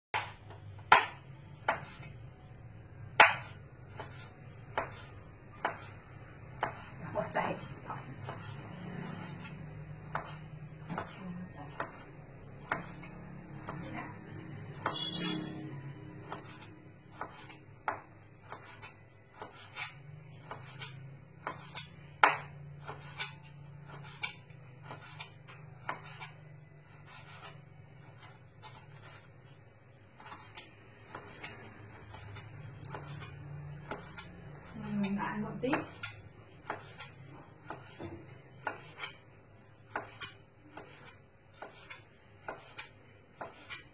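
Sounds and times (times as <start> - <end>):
knife chopping on cutting board: 0.2 - 2.1, 3.1 - 6.0, 6.6 - 43.9.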